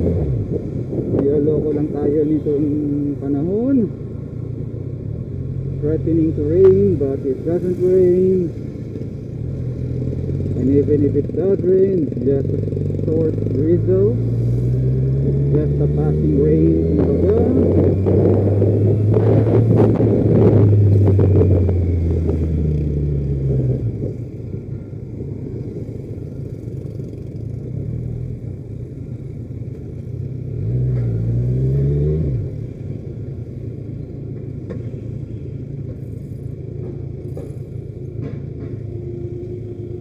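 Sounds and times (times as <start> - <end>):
motorcycle engine: 0.0 - 34.8.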